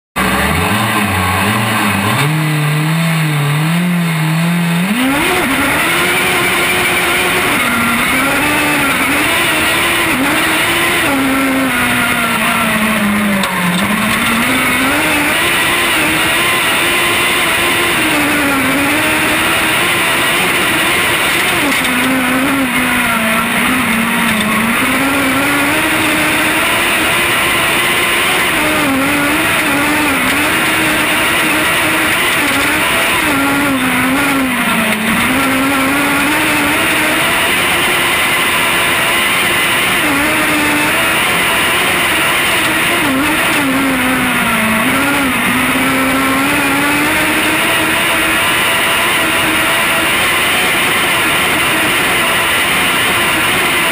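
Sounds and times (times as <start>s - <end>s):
racing car engine revving: 0.0s - 53.9s
dirt track rumble: 0.2s - 53.9s.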